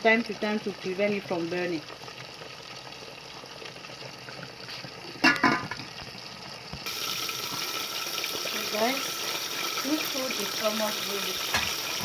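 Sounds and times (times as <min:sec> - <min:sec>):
pot bubbling: 0:00.0 - 0:12.0.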